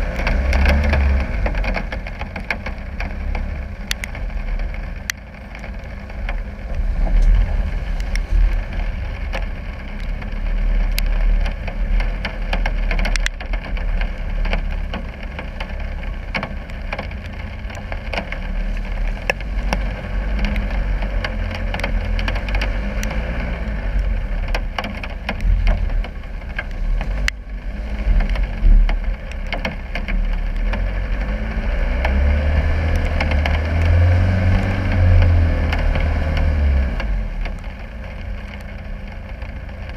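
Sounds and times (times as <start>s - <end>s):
sharp clicks and knocks: 0.0s - 39.9s.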